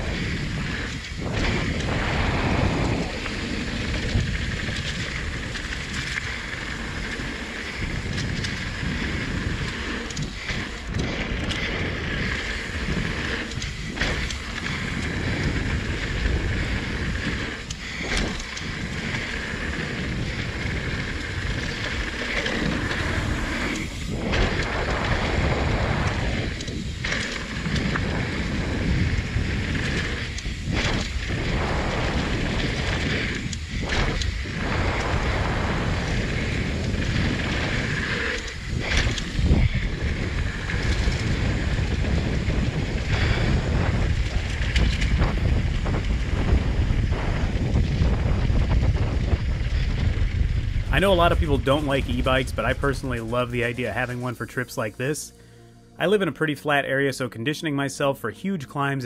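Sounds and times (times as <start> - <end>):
wind buffeting camera: 0.0 - 55.2
bike tyres rumbling on ground: 0.0 - 55.3.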